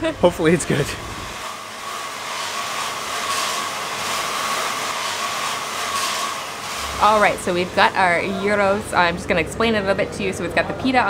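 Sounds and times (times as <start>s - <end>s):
extractor fan whooshing and whining: 0.0s - 10.4s.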